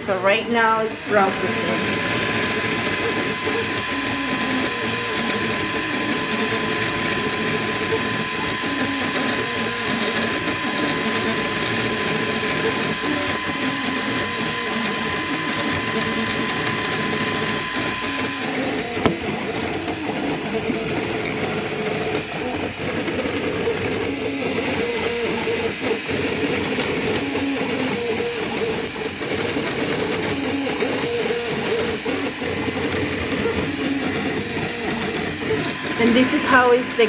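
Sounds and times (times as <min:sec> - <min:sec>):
stepper motors whining: 0:00.0 - 0:37.0.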